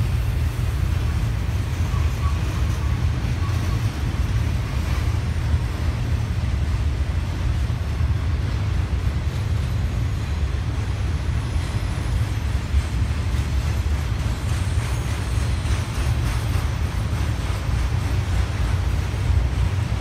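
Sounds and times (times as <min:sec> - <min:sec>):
train passing rumble: 0:00.0 - 0:20.0.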